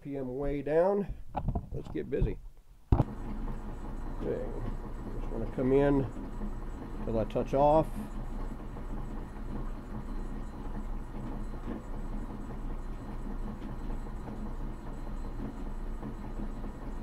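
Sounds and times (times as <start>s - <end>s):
lathe motor hum: 2.9s - 17.0s.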